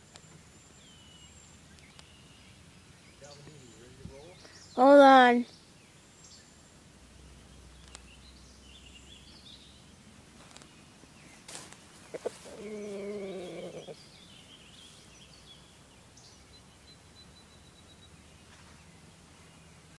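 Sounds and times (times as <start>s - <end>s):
distant songbirds chirping: 0.0s - 20.0s.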